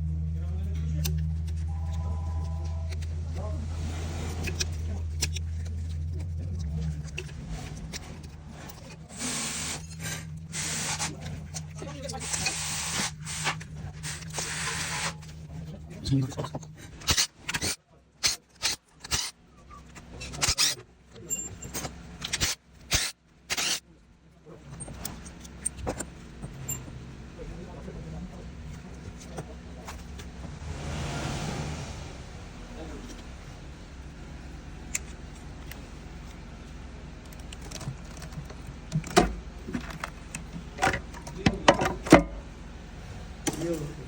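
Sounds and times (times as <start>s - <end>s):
low steady hum: 0.0s - 17.1s, 19.4s - 44.0s.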